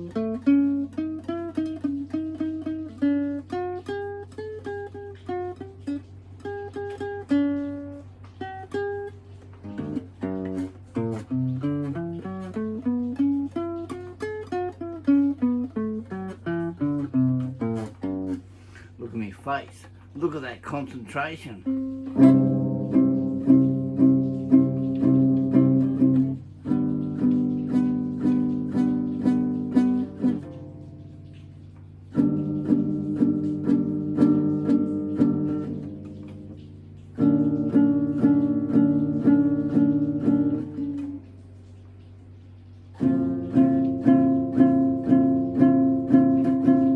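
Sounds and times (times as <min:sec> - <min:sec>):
guitar picked single-note melody: 0:00.0 - 0:18.5, 0:21.6 - 0:41.4, 0:43.0 - 0:46.9.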